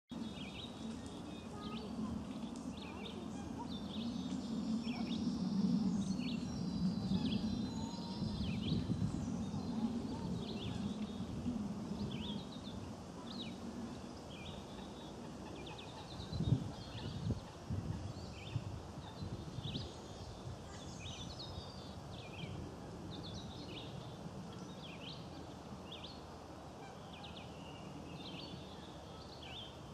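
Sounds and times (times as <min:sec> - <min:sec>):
birds chirping: 0:00.1 - 0:26.2
steady low rumble: 0:00.1 - 0:26.8.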